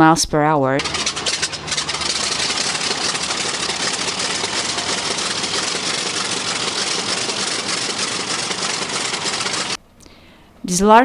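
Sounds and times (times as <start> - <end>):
aircraft engine running: 0.0 - 10.6.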